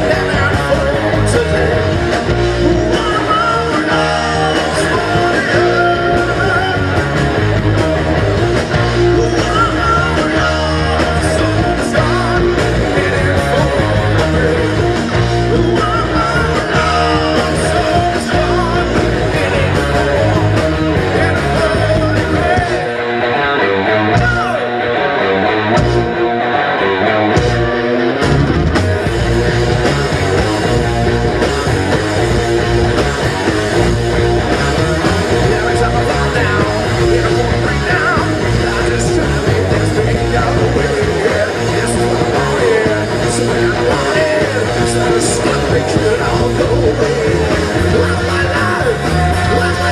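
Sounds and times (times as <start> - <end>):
drums: 0.0 - 49.9
rock band playing live: 0.0 - 49.9.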